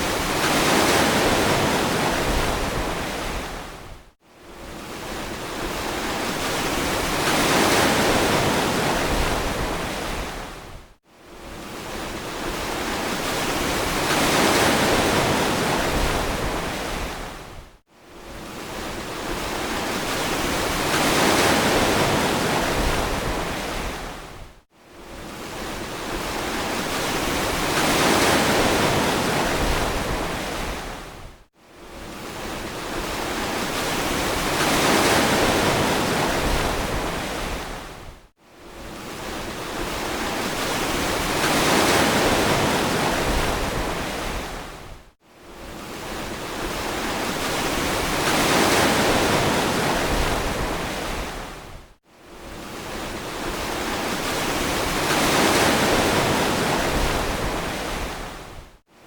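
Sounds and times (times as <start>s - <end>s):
ocean waves washing on beach: 0.0s - 59.0s.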